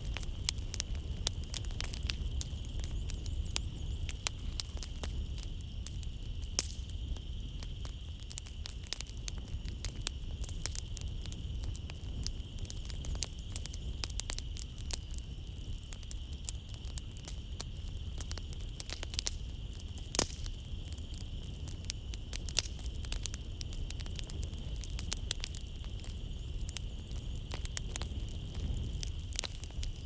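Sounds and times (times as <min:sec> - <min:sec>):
night insects droning: 0:00.0 - 0:30.0
wood fire crackling and popping: 0:00.0 - 0:30.0.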